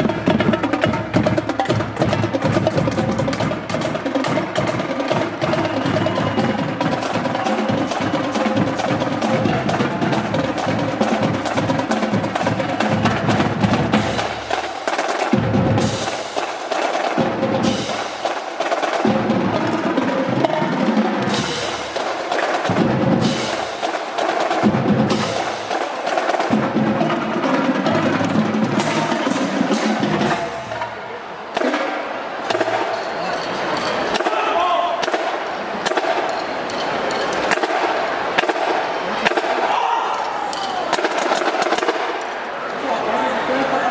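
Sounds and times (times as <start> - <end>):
rapid snare drum strokes: 0.0 - 42.5
marching band playing: 0.0 - 43.9.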